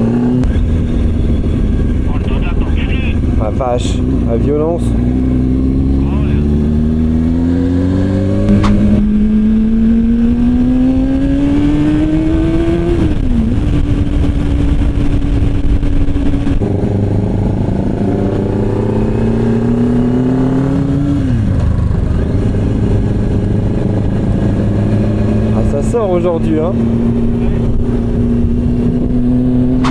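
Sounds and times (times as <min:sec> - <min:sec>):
road and wind noise: 0:00.0 - 0:29.9.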